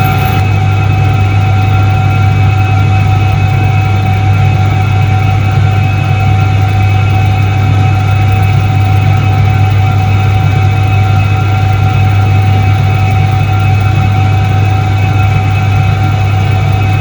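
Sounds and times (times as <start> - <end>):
washing machine motor drone: 0.0 - 17.0.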